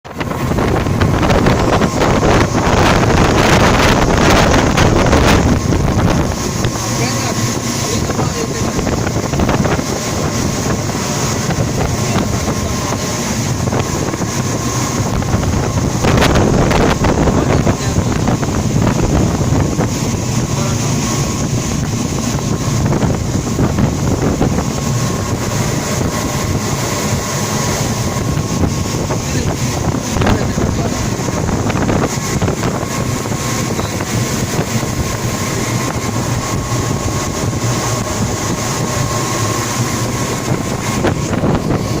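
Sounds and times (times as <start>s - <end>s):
wind buffeting microphone: 0.0s - 42.0s
ferry engines running: 0.1s - 42.0s
thin steady whine: 0.1s - 42.0s.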